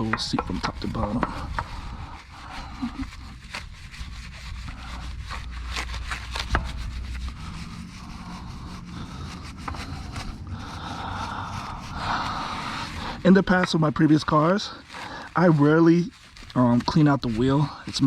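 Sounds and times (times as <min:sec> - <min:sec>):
brush scrubbing wet wheel: 0:00.0 - 0:18.0.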